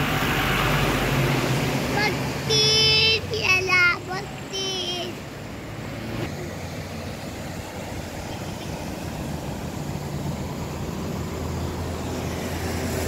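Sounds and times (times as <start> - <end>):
fast-flowing water rushing: 0.0 - 13.0
vehicle engine humming: 0.0 - 13.0.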